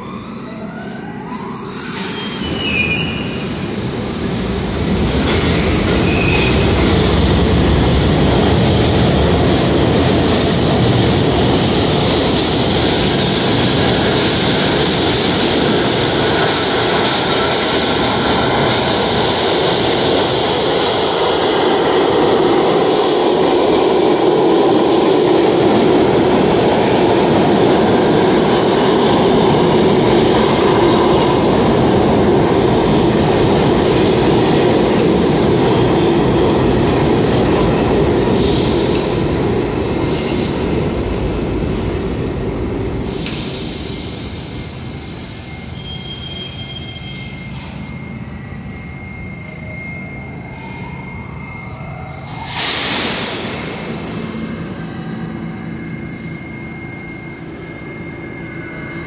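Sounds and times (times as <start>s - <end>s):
subway train on steel rails: 0.0s - 59.0s.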